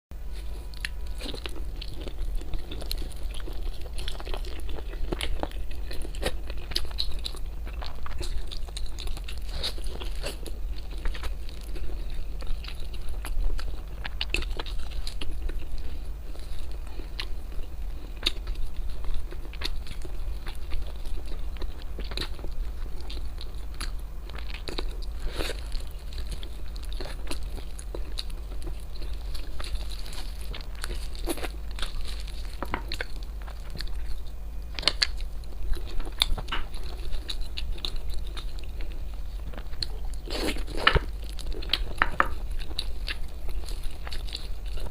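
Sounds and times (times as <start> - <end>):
crunchy chewing: 0.2 - 44.9
low hum: 0.2 - 44.9.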